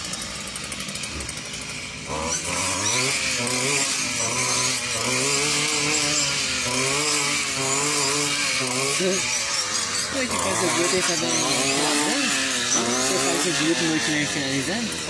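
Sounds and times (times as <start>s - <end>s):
brush cutter engine running: 0.0s - 15.0s.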